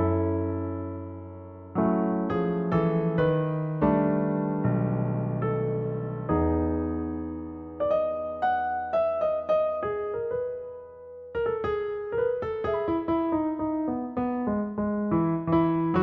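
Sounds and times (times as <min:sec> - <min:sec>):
slow solo piano melody: 0:00.0 - 0:16.0.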